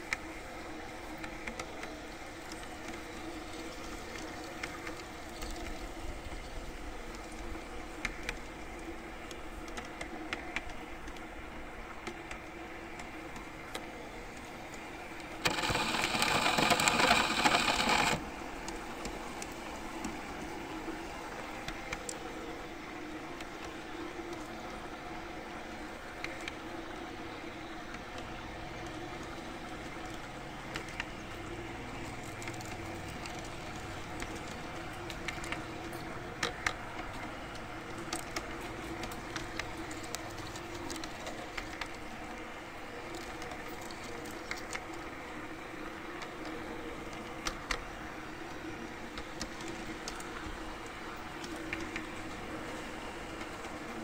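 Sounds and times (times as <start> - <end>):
electric motor hum and gear whine: 0.0 - 54.0
wheels clicking on rails: 0.0 - 54.0.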